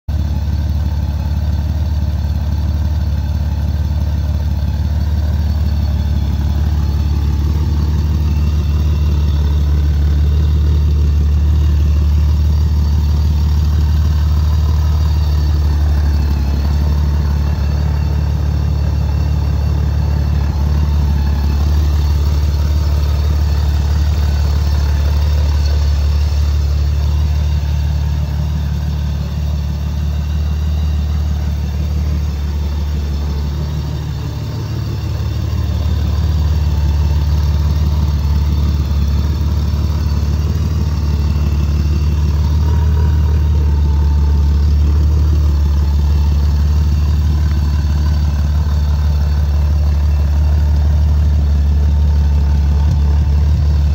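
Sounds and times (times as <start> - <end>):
motorcycle engine idling: 0.1 - 53.9.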